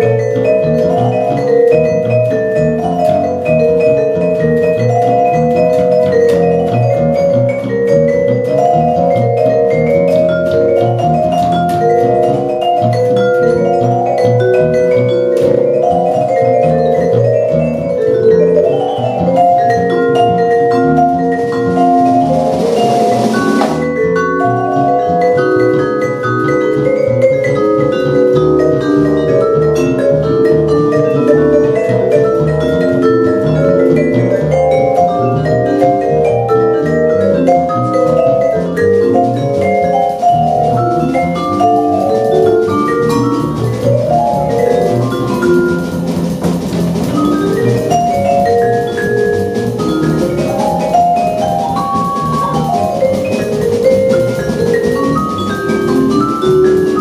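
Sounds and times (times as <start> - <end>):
double bass: 0.0 - 57.0
drums: 0.0 - 57.0
vibraphone mallet runs: 0.0 - 57.0.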